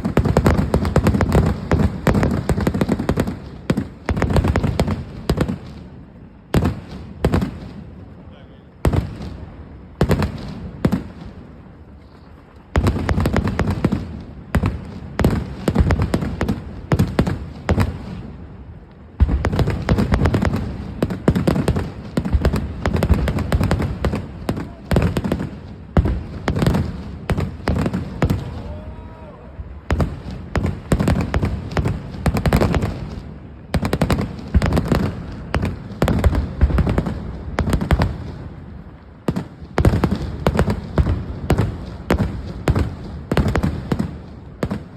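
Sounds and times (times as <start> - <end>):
firecracker bangs: 0.0 - 5.9, 8.7 - 11.5, 12.7 - 18.4, 19.1 - 44.9.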